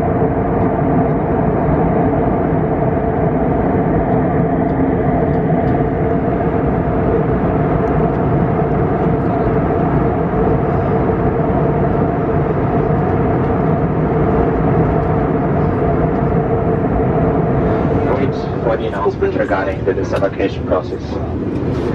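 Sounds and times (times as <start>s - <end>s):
aircraft cabin engine drone: 0.0s - 21.9s.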